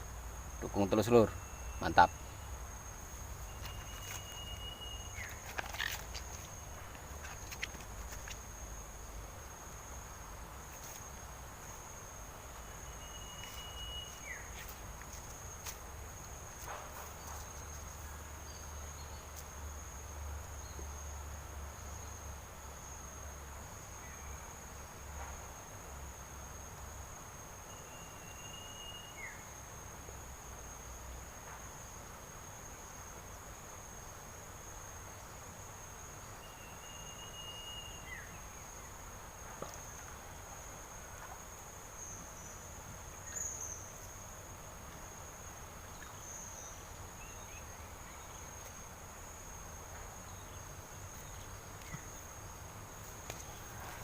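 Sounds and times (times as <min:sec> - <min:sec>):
cricket trilling: 0:00.0 - 0:54.0
insect chirps: 0:00.0 - 0:54.0.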